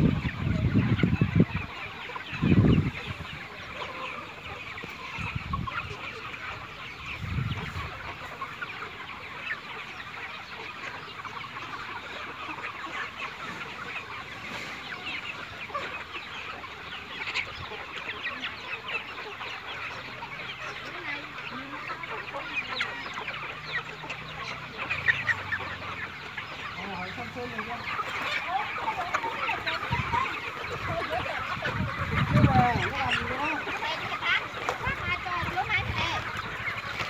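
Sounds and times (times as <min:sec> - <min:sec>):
chickens clucking and chirping: 0:00.0 - 0:37.0.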